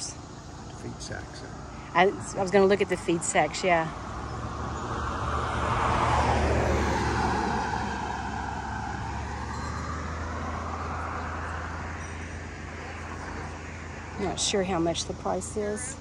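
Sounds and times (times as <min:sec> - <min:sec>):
car passing by: 0:01.9 - 0:16.0.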